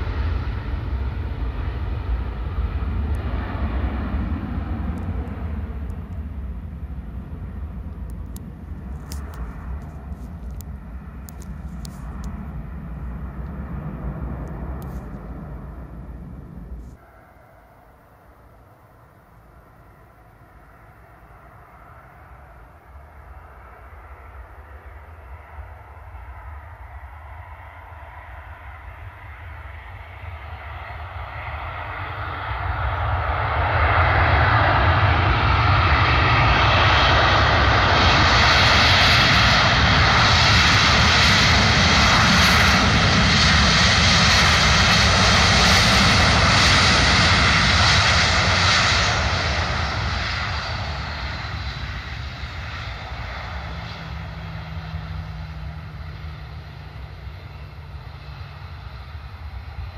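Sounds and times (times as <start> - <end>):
jet engines rushing: 0.0 - 59.9
steady low hum: 0.0 - 59.9.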